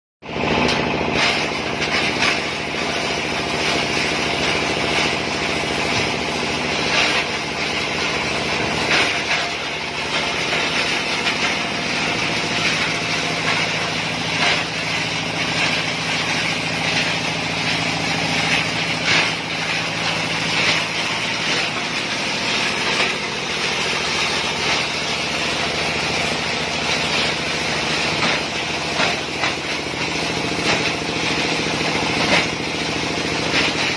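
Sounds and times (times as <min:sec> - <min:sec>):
plastic shredding machine running: 0:00.2 - 0:33.9.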